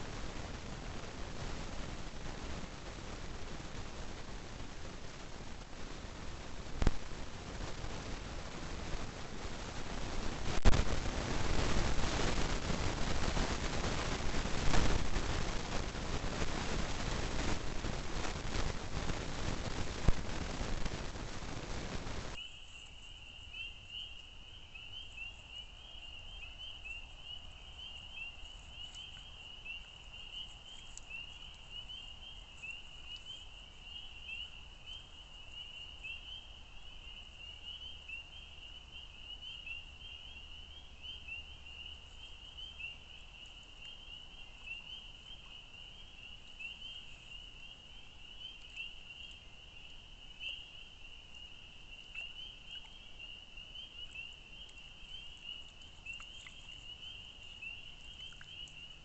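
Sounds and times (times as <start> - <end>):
faint low rumble: 0.0 - 59.0.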